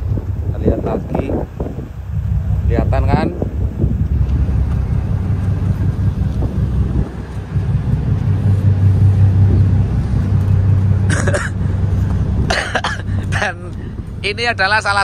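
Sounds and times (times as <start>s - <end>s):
ship engine drone: 0.0s - 15.0s
wind buffeting microphone: 0.0s - 15.0s.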